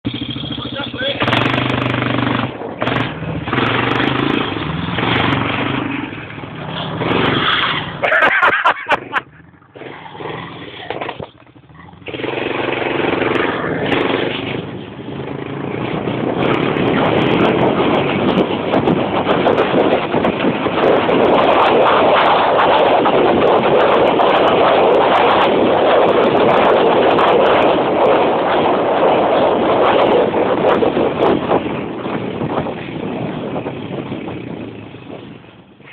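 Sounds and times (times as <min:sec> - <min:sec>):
vehicle engine running: 0:00.0 - 0:35.9
loud steady rushing noise: 0:00.6 - 0:35.9.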